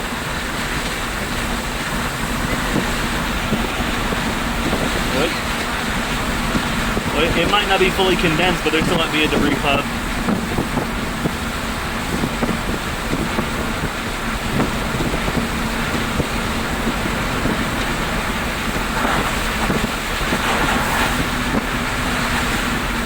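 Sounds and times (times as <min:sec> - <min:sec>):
low engine hum: 0:00.0 - 0:23.0
road and wind noise: 0:00.0 - 0:23.0.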